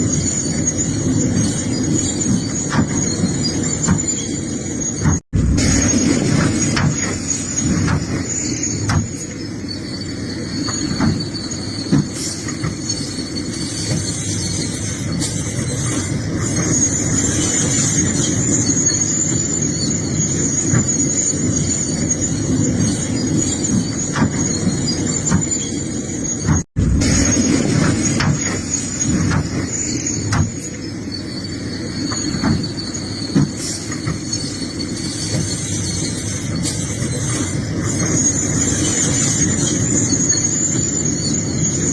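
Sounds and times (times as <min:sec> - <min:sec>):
high whine: 0:00.0 - 0:11.9, 0:12.7 - 0:41.9
excavator engine running: 0:00.0 - 0:41.9
high squeal: 0:00.0 - 0:41.9.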